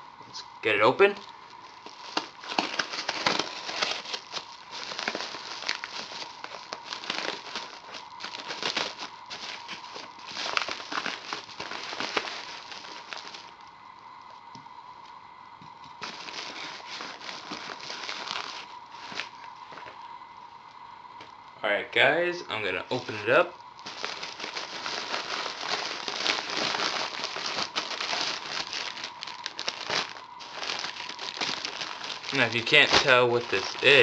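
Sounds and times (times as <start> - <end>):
bubble mailer crinkling: 1.0 - 13.7, 15.9 - 19.9, 22.9 - 34.0.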